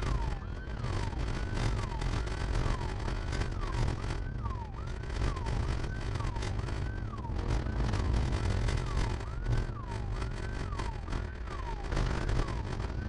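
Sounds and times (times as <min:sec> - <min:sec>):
car engine and tyres rumbling: 0:00.0 - 0:13.0
police siren yelping: 0:00.0 - 0:13.0.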